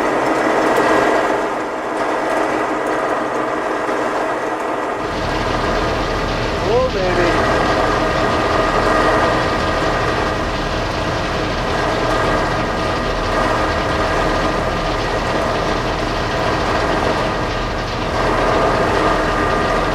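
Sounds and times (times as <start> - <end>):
combine harvester running: 0.0 - 19.9.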